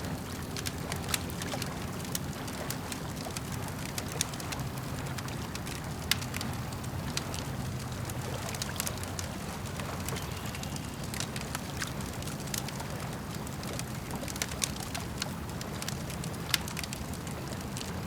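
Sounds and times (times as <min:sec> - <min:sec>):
campfire crackling and popping: 0:00.0 - 0:18.0
lake water washing: 0:00.0 - 0:18.0.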